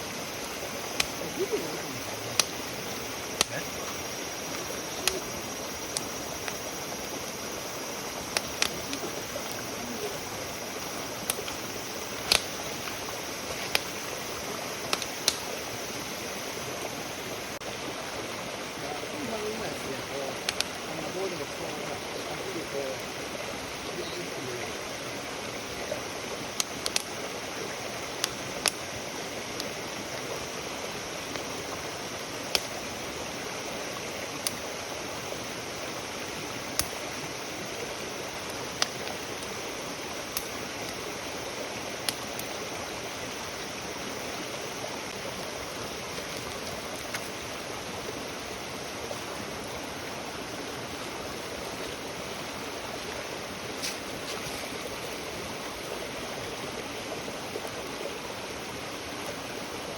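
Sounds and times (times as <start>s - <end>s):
fire hissing: 0.0s - 59.9s
wood fire crackling and popping: 0.1s - 24.0s, 24.7s - 47.8s, 51.0s - 56.8s.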